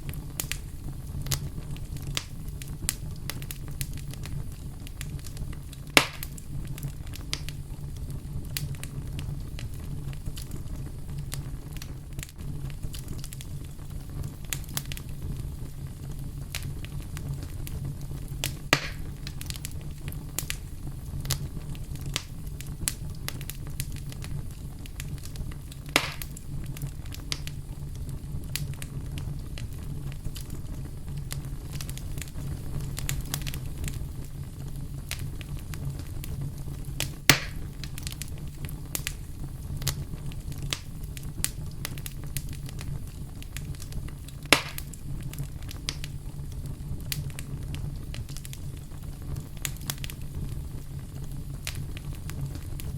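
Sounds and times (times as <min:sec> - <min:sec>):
campfire rumble: 0:00.0 - 0:52.9
fire crackling: 0:00.0 - 0:52.9
loud fire pops: 0:00.0 - 0:52.9.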